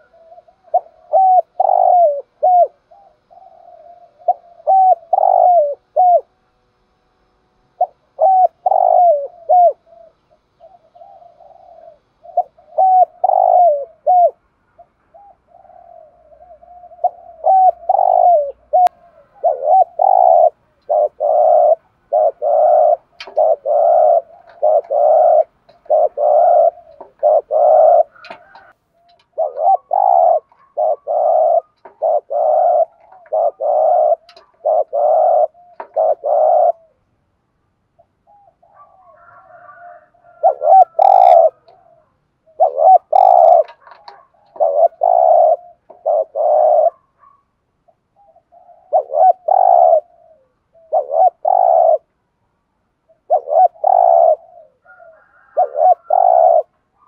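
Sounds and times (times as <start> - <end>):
dove cooing: 0.0 - 37.2, 37.9 - 52.2, 53.0 - 57.0.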